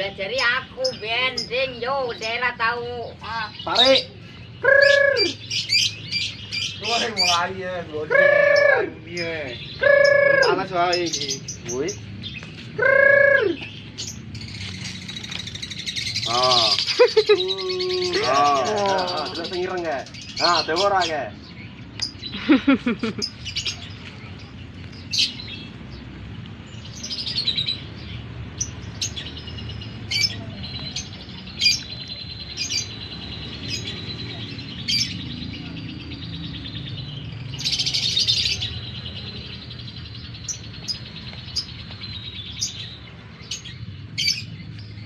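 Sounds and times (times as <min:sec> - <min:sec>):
bird twittering chatter: 0:00.0 - 0:26.0, 0:26.7 - 0:45.0
bird chirping: 0:00.0 - 0:45.0.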